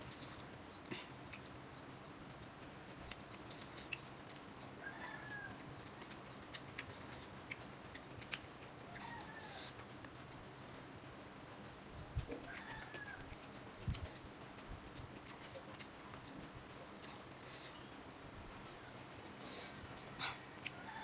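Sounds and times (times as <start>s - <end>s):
chewing and smacking: 0.0s - 10.9s, 12.0s - 18.0s, 18.6s - 21.0s.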